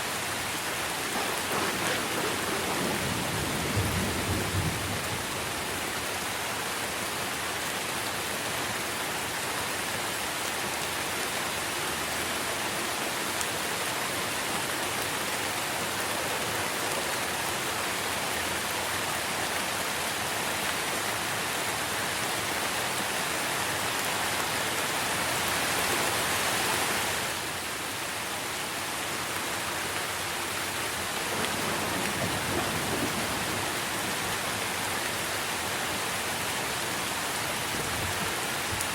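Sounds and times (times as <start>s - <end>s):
rain on trees and leaves: 0.0s - 38.9s.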